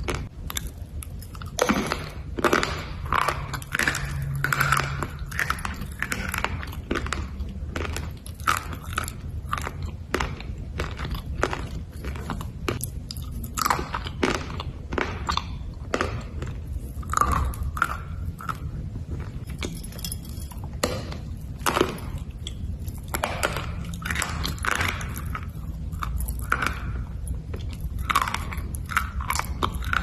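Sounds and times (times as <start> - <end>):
person chewing crunchy bars: 0.0 - 30.0.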